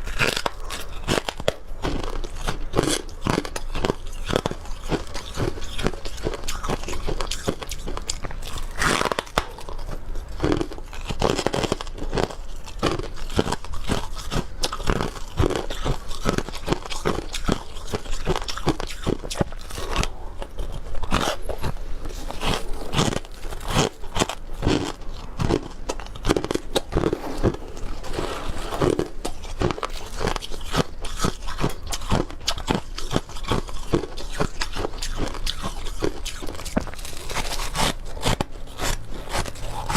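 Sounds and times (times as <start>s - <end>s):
frost chunks crunching when chewed: 0.0s - 39.9s.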